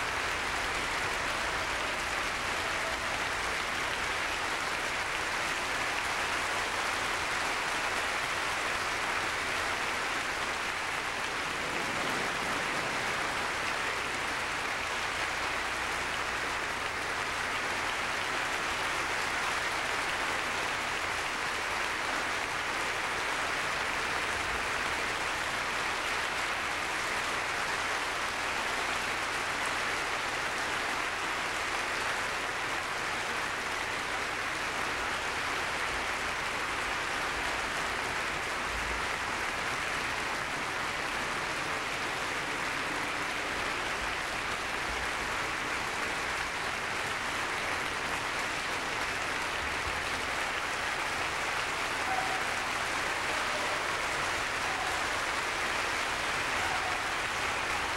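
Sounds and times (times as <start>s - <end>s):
audience applauding: 0.0s - 57.9s.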